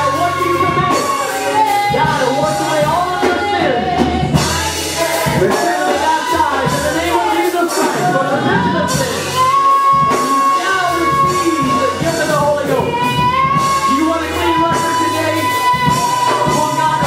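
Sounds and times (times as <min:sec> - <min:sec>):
band with bass and beat: 0:00.0 - 0:17.0.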